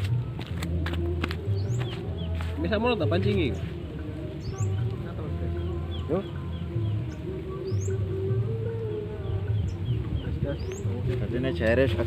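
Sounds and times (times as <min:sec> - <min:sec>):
birds chirping: 0:00.0 - 0:12.0
music with low bass line: 0:00.0 - 0:12.0.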